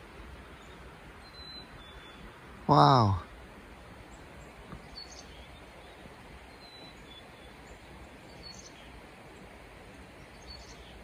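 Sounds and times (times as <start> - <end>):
faint background hiss: 0.0 - 11.0
songbirds chirping: 0.0 - 11.0.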